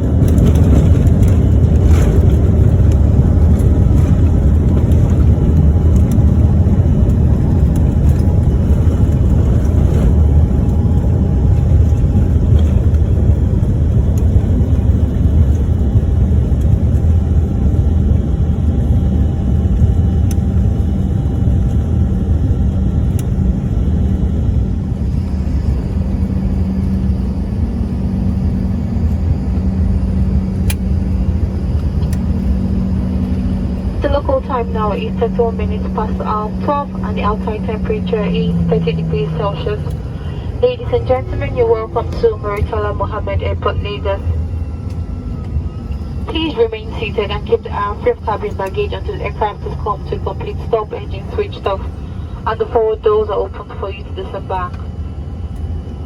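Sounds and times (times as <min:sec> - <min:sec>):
airliner cabin engine rumble: 0:00.0 - 0:56.0
steady low hum: 0:00.0 - 0:56.0.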